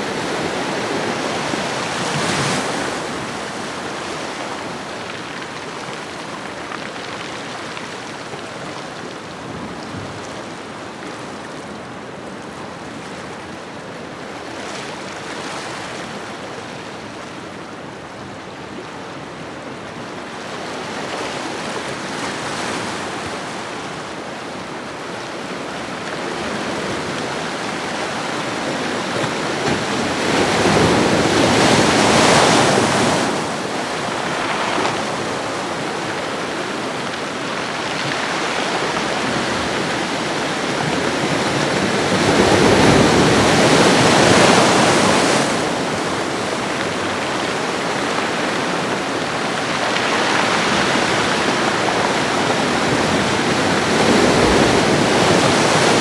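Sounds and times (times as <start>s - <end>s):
ocean waves breaking on shore: 0.0s - 11.7s, 19.8s - 56.0s.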